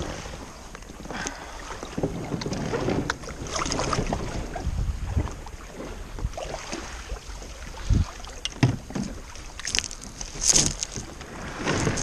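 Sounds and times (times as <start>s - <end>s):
kayak hull scraping on pebbles: 1.8s - 12.0s.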